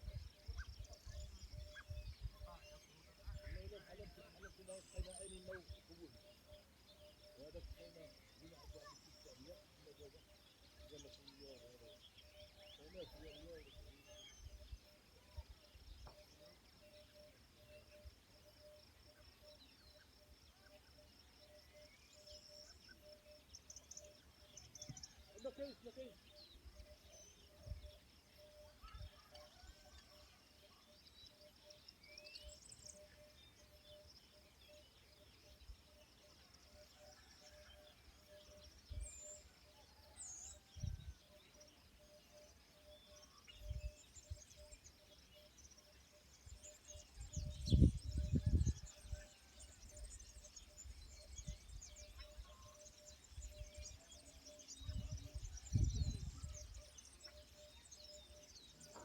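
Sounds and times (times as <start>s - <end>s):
birds chirping: 0.0s - 30.0s, 30.8s - 59.0s.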